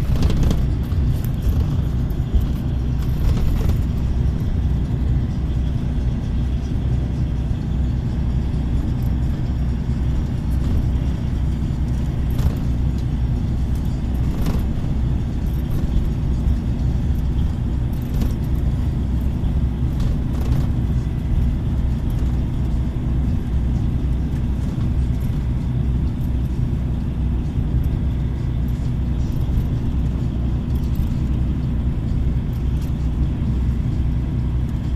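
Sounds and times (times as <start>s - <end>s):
car interior engine and tyre rumble: 0.0s - 34.9s.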